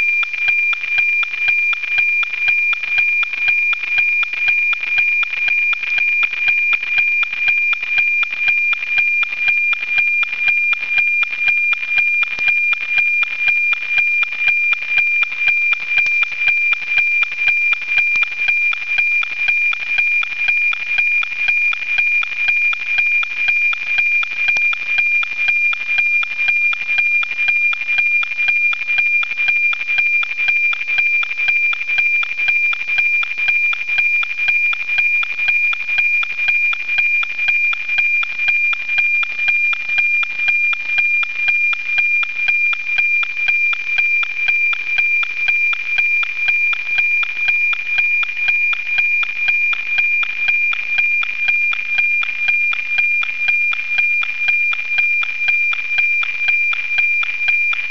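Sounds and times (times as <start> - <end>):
satellite signal tone with ticking: 0.0 - 57.9.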